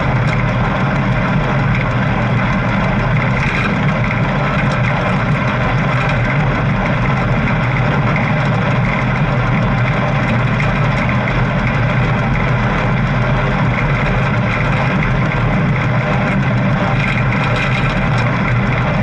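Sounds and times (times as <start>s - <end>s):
bike engine rumble: 0.0s - 19.0s.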